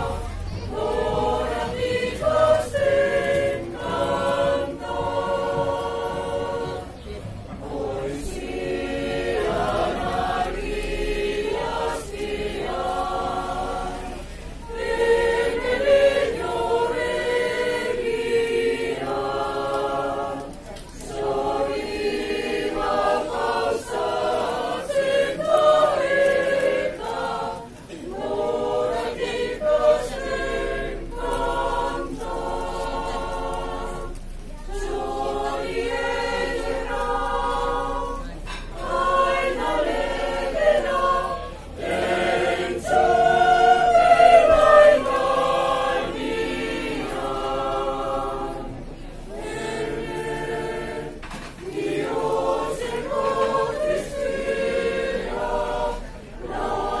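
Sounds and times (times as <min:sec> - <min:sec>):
mixed choir singing in harmony: 0:00.0 - 0:57.0.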